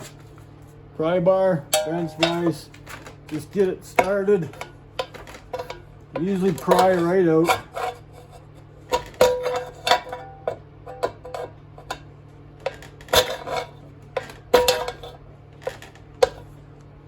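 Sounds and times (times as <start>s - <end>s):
pry bar clanking on metal: 1.7s - 8.3s, 8.9s - 16.5s.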